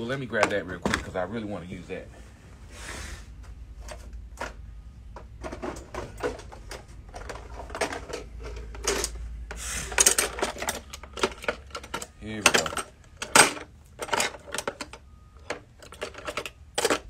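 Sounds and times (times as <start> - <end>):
hand tools rummaged and clattering: 0.0 - 2.0, 3.3 - 17.0.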